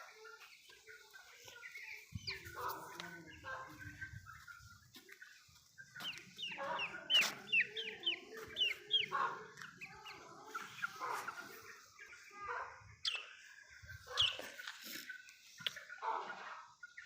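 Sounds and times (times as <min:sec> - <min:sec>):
chickens clucking and cackling: 0:00.0 - 0:17.0.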